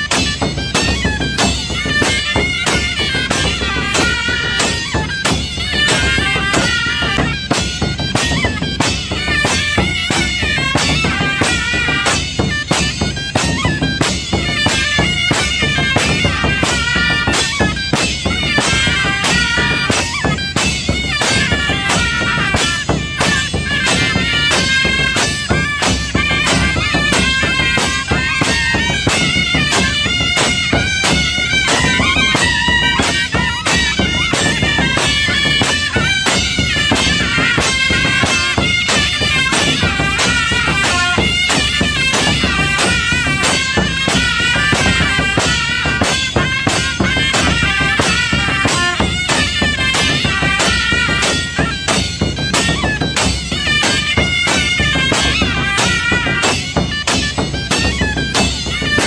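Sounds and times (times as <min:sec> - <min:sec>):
drum and percussion beat: 0:00.0 - 0:59.0
loud reedy shawm melody: 0:00.0 - 0:59.0.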